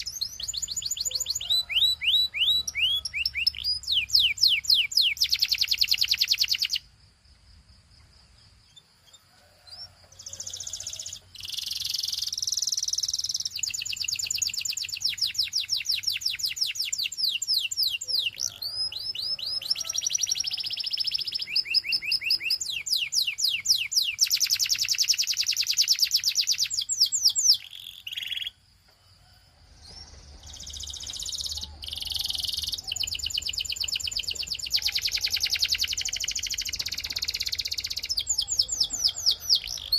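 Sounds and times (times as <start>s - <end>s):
canary singing trills: 0.0s - 6.9s, 8.6s - 28.6s, 29.9s - 39.9s.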